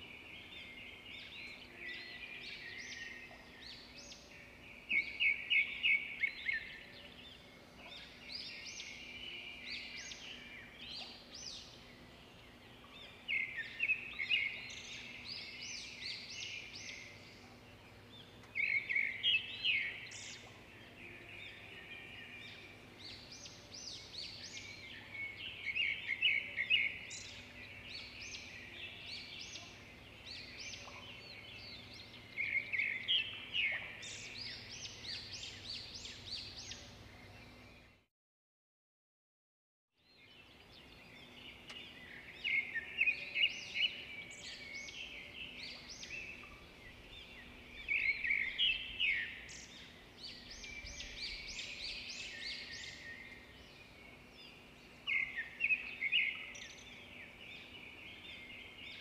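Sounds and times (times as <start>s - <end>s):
small birds chirping: 0.0s - 38.0s, 40.0s - 59.0s.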